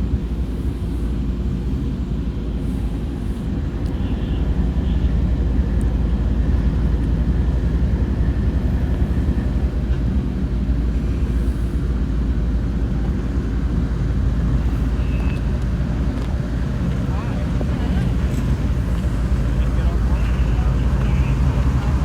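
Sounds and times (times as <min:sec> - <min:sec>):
diesel locomotive engine rumbling: 0:00.0 - 0:22.0.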